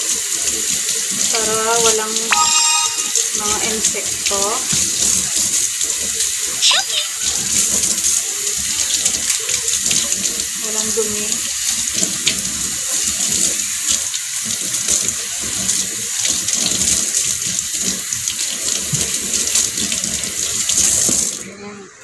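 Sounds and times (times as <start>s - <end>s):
tap water running: 0.0s - 22.0s.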